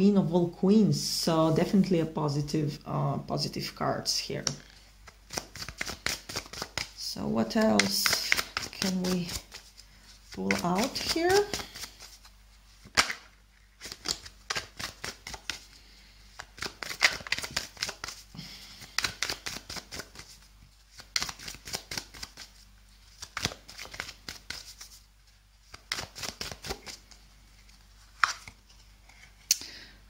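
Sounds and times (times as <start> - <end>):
cards being shuffled: 4.5 - 29.5.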